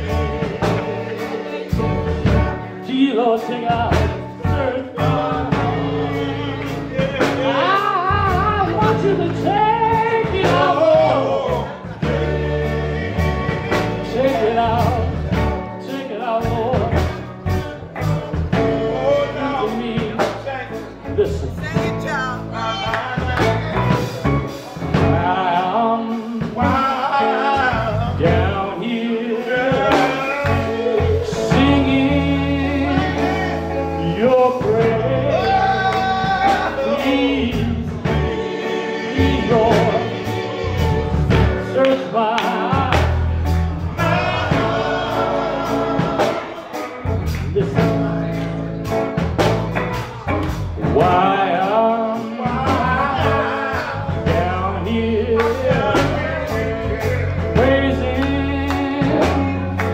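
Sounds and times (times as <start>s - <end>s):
man singing lead: 0.0s - 48.5s, 49.4s - 59.9s
electric guitar and band: 0.0s - 59.9s
male backing vocals: 0.0s - 59.9s.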